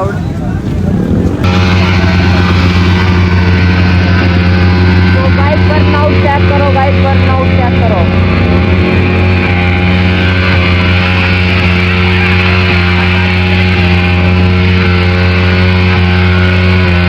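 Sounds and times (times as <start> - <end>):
motorcycle engine revving: 0.8 - 17.0.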